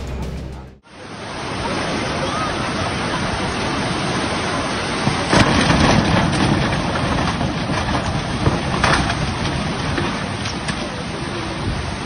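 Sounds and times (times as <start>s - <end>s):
floodwater rushing: 0.8s - 12.0s.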